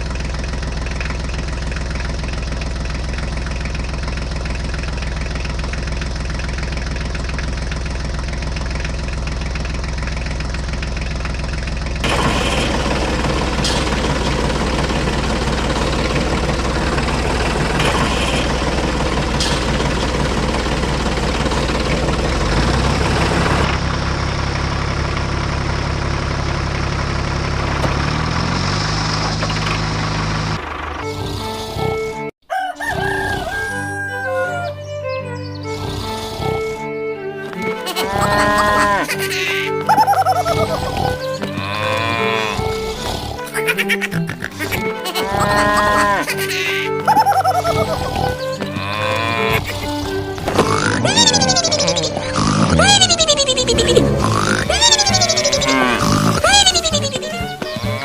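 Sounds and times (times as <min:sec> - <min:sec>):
small tractor engine running: 0:00.0 - 0:32.3, 0:35.1 - 0:58.0.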